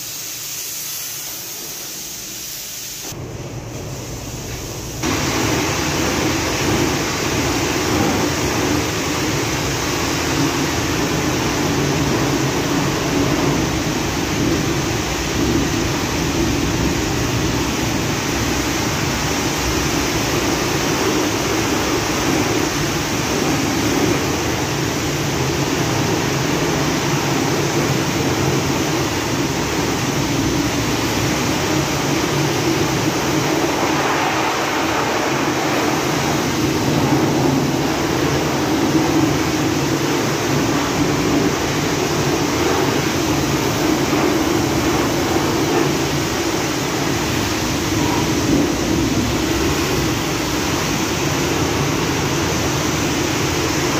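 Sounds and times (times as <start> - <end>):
pressure washer spraying: 0.0 - 3.2, 3.8 - 53.9
pressure washer machine running: 0.0 - 53.9.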